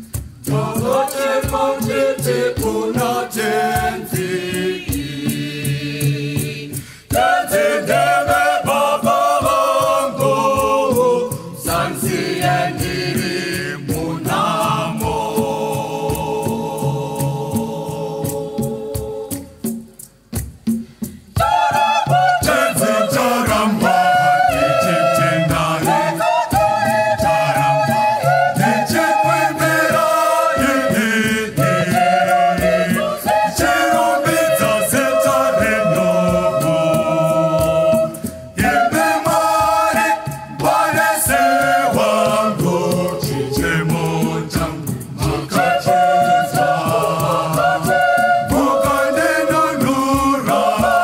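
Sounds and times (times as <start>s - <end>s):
choir singing gospel: 0.0s - 20.5s, 21.3s - 51.0s
steady beat of sharp strokes: 0.0s - 51.0s.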